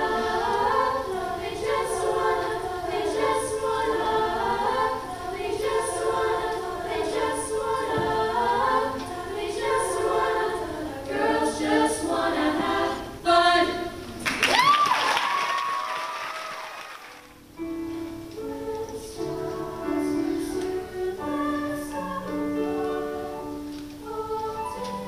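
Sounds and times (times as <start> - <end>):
choir singing a cappella: 0.0 - 14.3, 18.0 - 25.0.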